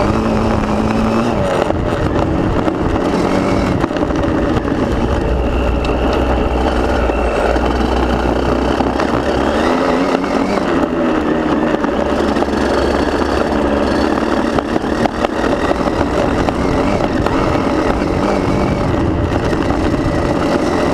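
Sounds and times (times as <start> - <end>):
motocross bike engine revving: 0.0 - 20.9.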